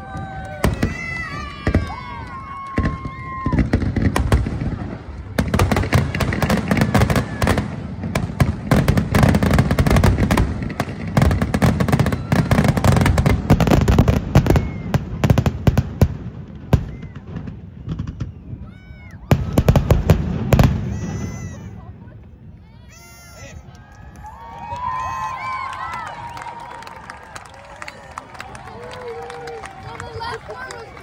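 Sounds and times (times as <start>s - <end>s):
firework cracks and crackling bursts: 0.0s - 31.0s.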